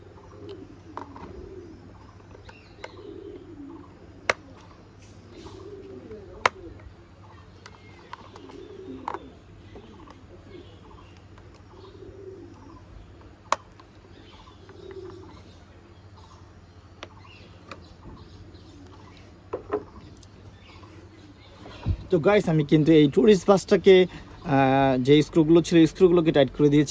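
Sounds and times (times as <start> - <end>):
pigeons cooing: 0.0 - 26.9.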